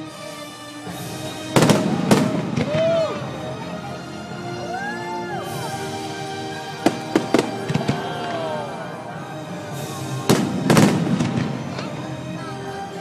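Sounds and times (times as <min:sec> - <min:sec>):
music on loudspeakers: 0:00.0 - 0:13.0.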